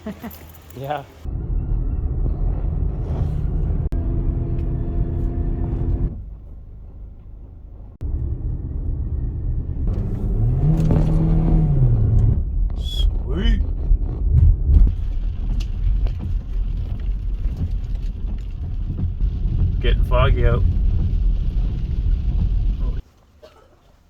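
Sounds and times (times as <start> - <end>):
road rumble: 0.0 - 23.7
car engine: 1.2 - 23.0.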